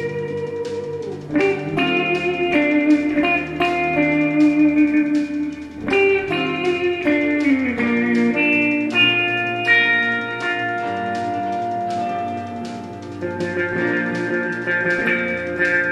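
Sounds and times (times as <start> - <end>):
plucked guitar notes: 0.0 - 15.9.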